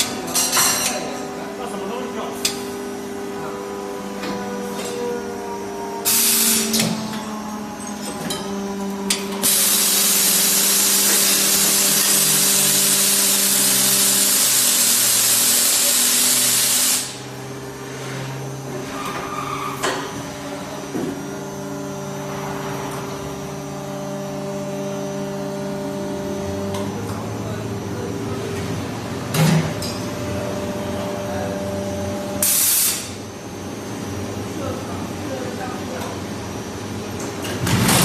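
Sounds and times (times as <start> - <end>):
machine hum: 1.0 - 38.0.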